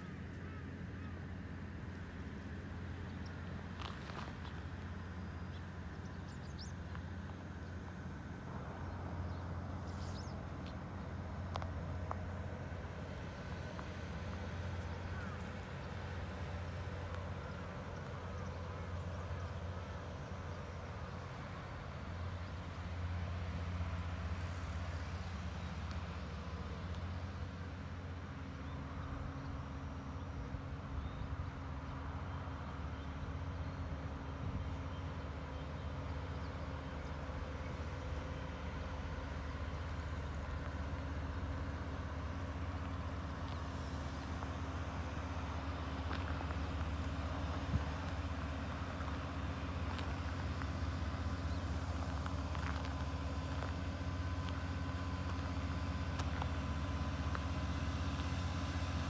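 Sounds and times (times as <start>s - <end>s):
combine harvester engine drone: 0.0s - 59.0s
faint steady hum: 0.0s - 59.0s.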